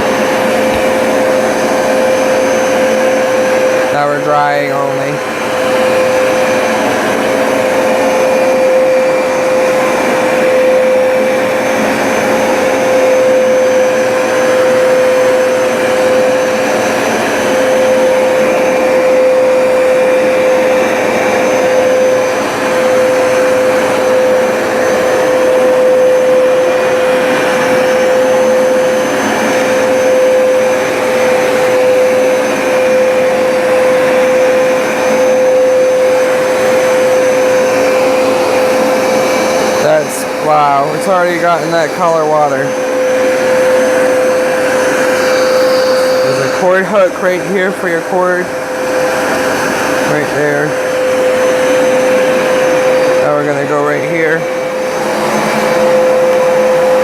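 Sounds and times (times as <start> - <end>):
carpet cleaner suction motor drone: 0.0 - 57.0.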